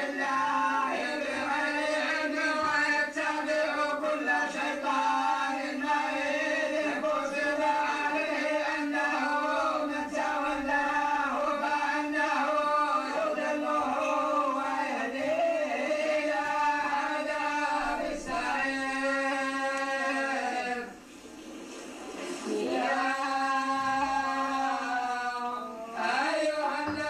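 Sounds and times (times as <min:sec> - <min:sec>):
men chanting in unison: 0:00.0 - 0:21.0, 0:22.5 - 0:27.0.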